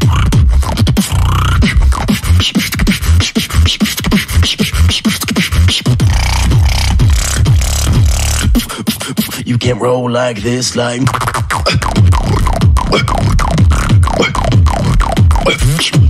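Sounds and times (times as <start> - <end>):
person beatboxing: 0.0 - 16.0.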